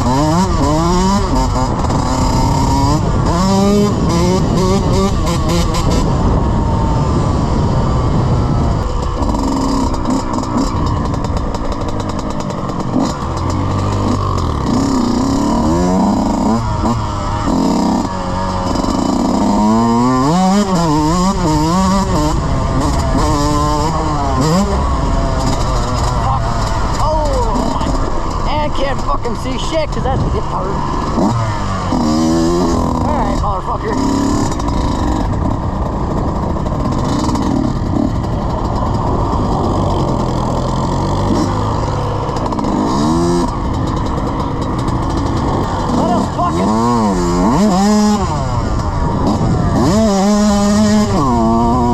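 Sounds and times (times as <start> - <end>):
dirt bike engine revving: 0.0 - 51.9
steady rushing noise: 0.0 - 51.9.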